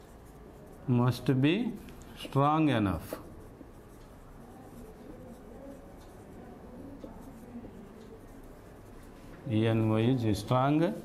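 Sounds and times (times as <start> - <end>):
marker pen scratching on whiteboard: 0.0 - 11.0.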